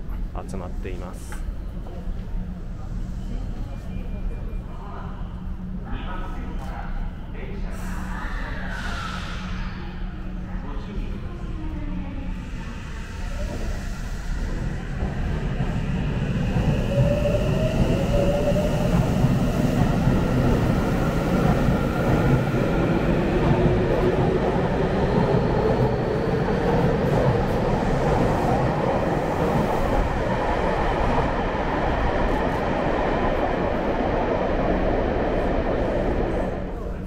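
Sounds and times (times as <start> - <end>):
rumble of train wheels: 0.0 - 37.0.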